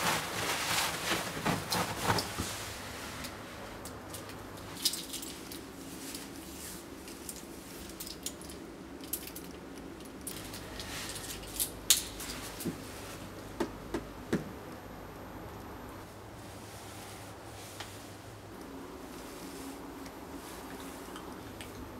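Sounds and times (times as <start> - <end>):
faint low hum: 0.0 - 21.9.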